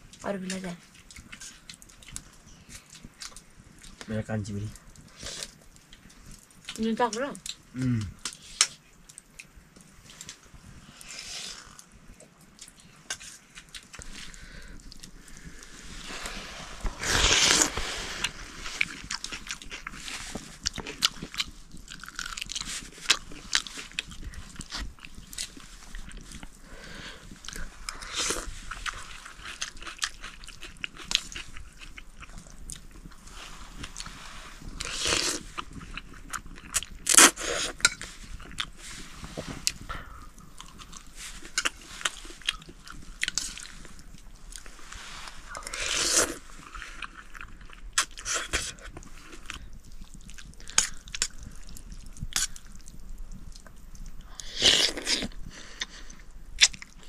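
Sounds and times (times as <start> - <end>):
people chewing noodles: 0.0 - 57.0.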